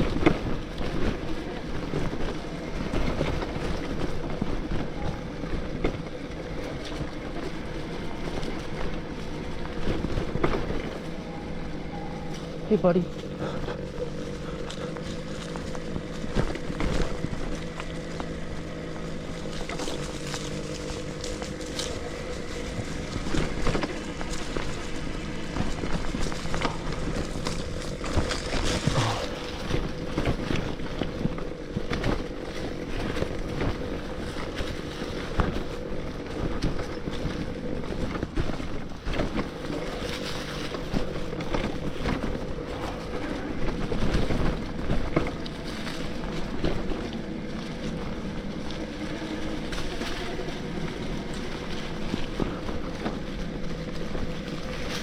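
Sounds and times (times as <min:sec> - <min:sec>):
bike knocking and rattling: 0:00.0 - 0:55.0
electric bike motor whining: 0:00.0 - 0:55.0
tyre noise: 0:00.0 - 0:55.0.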